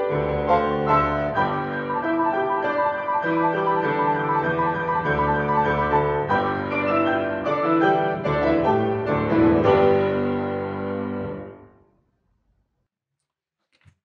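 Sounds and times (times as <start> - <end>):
grand piano playing: 0.0 - 11.9.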